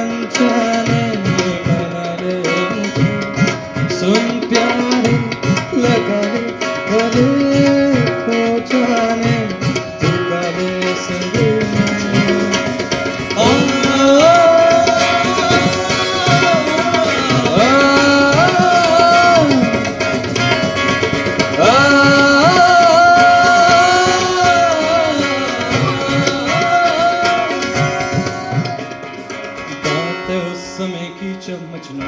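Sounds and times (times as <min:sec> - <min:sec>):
tabla drumming: 0:00.0 - 0:32.0.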